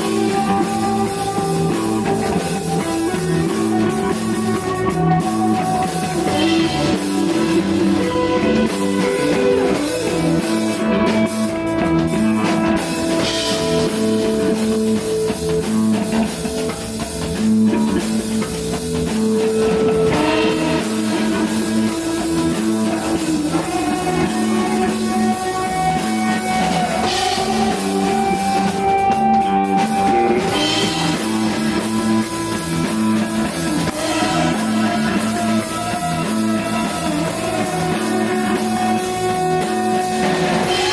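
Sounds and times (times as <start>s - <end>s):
drum kit: 0.0s - 40.9s
electric guitar long notes: 0.0s - 40.9s.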